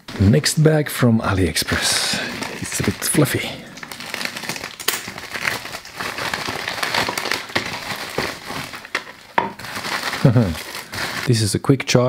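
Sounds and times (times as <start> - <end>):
plastic bag crinkling: 1.3 - 11.4.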